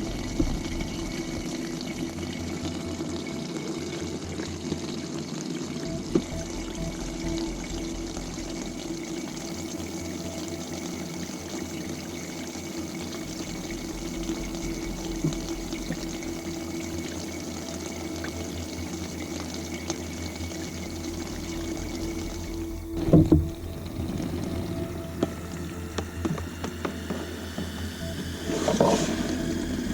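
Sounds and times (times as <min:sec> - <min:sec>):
liquid splashing trickle: 0:00.0 - 0:26.6
pump electrical hum: 0:00.0 - 0:29.9.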